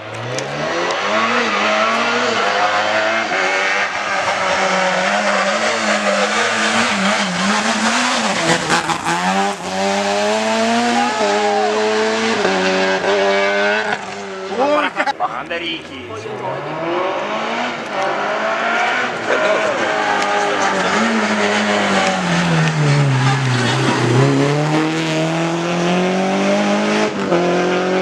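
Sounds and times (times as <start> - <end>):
rally car engine at high revs: 0.0 - 28.0.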